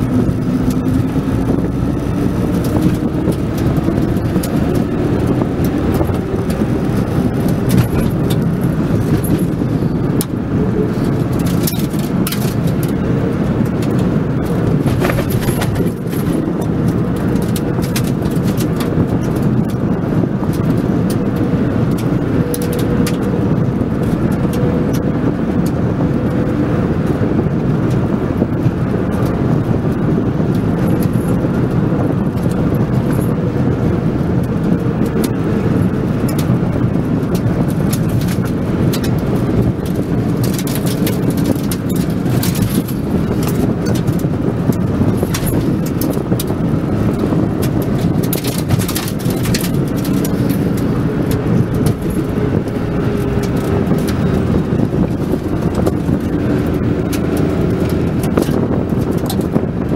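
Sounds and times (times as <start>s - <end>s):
clicks and rattles: 0.0s - 25.8s, 34.4s - 59.9s
car engine and road noise: 0.0s - 59.9s.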